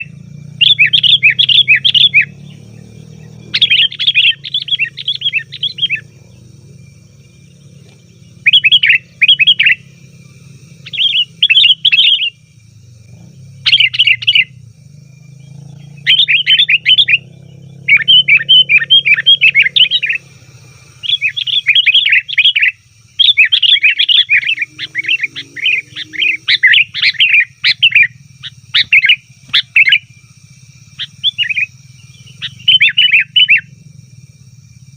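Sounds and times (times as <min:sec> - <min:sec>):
bird chattering calls: 0:00.0 - 0:34.8
steady low hum: 0:00.0 - 0:34.9.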